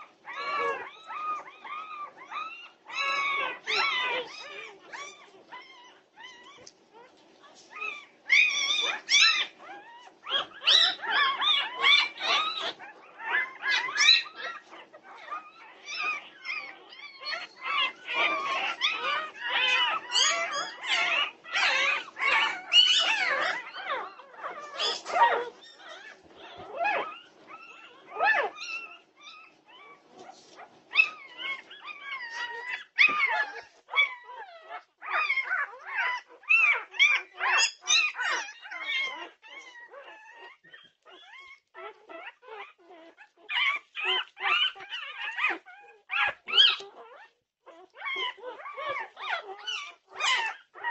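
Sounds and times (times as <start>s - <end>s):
puppies squealing and whining: 0.0s - 50.9s.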